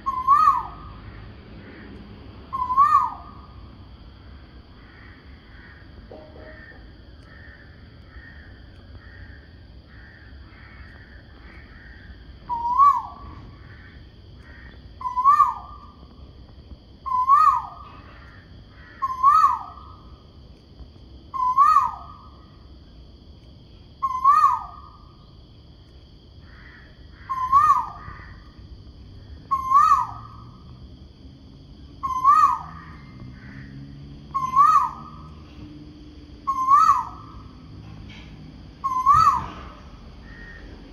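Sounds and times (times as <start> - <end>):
bird calling: 0.0 - 3.6, 4.7 - 16.2, 17.0 - 20.2, 21.3 - 22.7, 24.0 - 25.4, 26.4 - 30.7, 32.0 - 35.6, 36.4 - 40.9.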